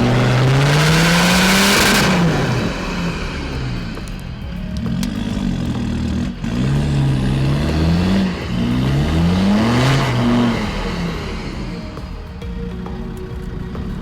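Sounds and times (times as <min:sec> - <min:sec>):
engine revving hard: 0:00.0 - 0:14.0.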